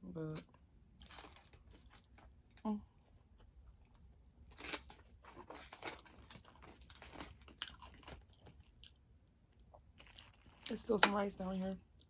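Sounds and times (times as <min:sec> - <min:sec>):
person chewing food: 0:01.0 - 0:10.7.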